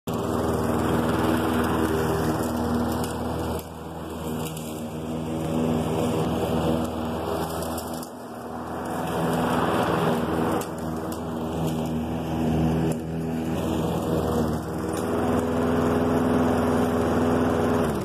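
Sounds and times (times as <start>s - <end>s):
lawn mower engine running: 0.1s - 18.0s.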